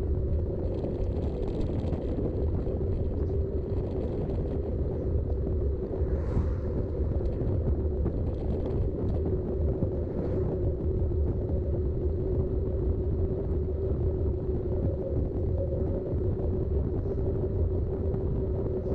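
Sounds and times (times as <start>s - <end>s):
bike tyres rolling rumble: 0.0s - 18.9s
steady hum: 0.0s - 18.9s
wind on microphone: 0.0s - 18.9s.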